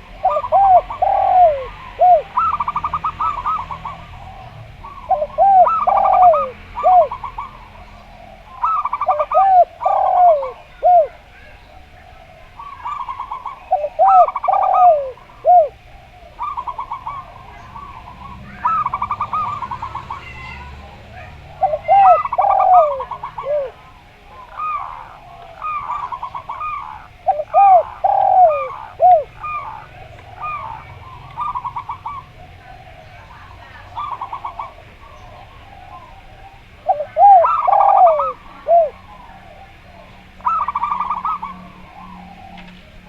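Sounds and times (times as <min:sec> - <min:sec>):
doves cooing: 0:00.0 - 0:43.0.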